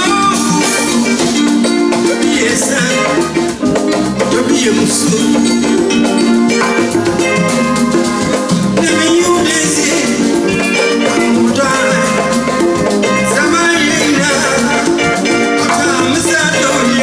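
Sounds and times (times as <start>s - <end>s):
drums: 0.0s - 17.0s
live band playing: 0.0s - 17.0s.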